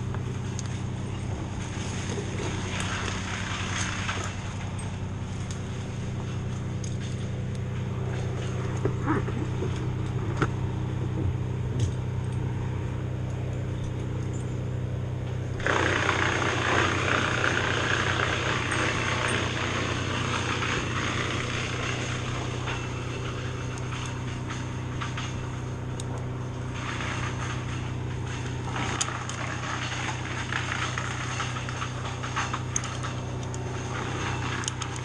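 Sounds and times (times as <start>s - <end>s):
branches being chipped: 0.0s - 35.0s
wood chipper engine running: 0.0s - 35.0s.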